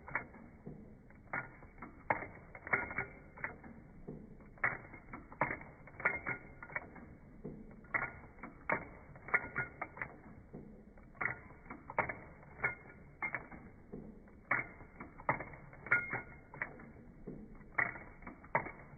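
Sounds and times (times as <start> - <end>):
sewing machine clicking: 0.0 - 18.9.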